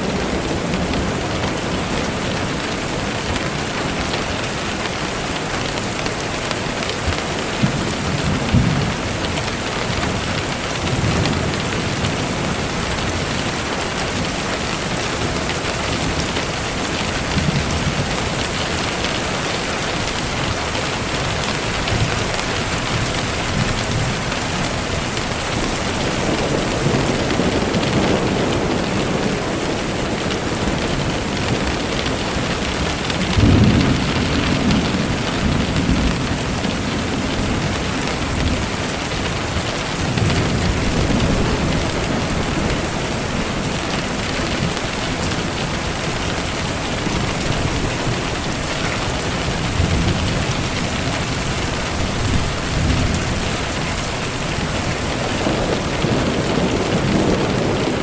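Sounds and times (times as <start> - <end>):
steady rain falling: 0.0 - 58.0
thunder rumbling: 0.0 - 58.0.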